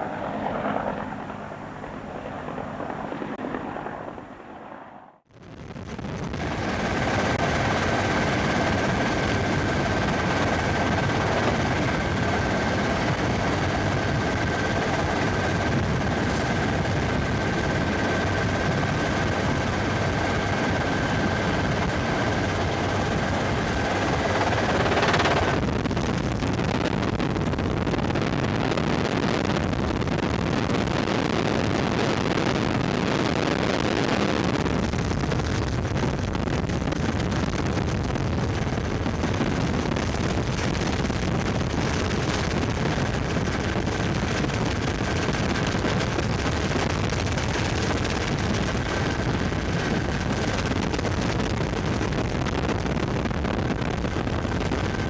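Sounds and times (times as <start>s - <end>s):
helicopter rotor and engine noise: 0.0s - 55.0s.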